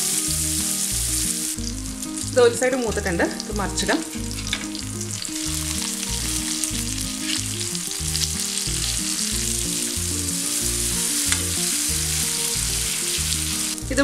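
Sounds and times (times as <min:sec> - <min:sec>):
fish sizzling in hot oil: 0:00.0 - 0:14.0
spatula turning fish: 0:00.0 - 0:14.0.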